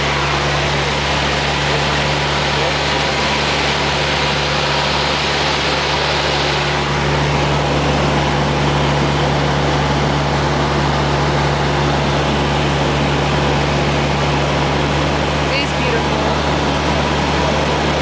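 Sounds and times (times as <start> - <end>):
light aircraft engine droning: 0.0 - 18.0.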